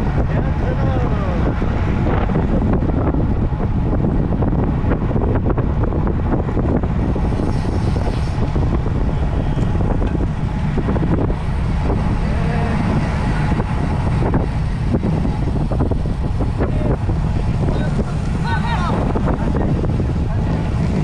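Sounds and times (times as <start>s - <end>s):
road noise: 0.0s - 21.0s
wind rushing over microphone: 0.0s - 21.0s.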